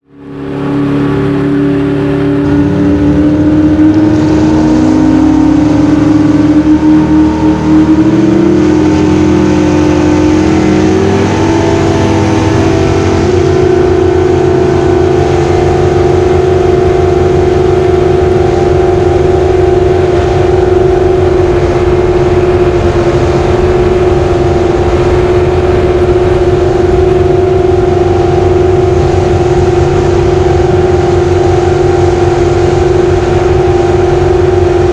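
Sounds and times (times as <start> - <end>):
jet boat engine at high revs: 0.0 - 34.9.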